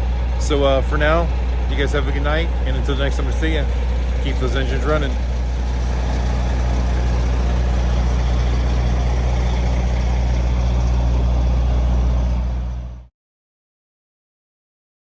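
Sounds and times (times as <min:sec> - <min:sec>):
diesel truck engine idling: 0:00.0 - 0:13.1.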